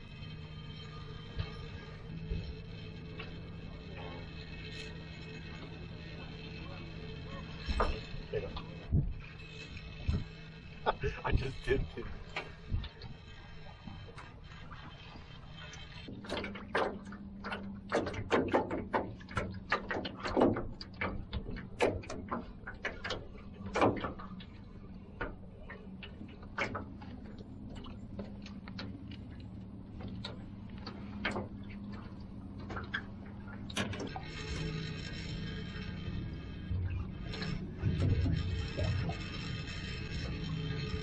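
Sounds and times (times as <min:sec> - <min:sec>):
steady low hum: 0:00.0 - 0:41.0
irregular knocks and clatter: 0:07.4 - 0:41.0.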